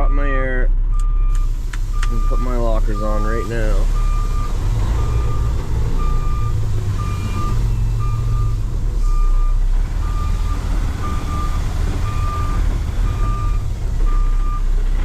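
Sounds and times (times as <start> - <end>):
reversing alarm beeping: 0.0 - 14.7
diesel engine rumble: 0.0 - 15.0.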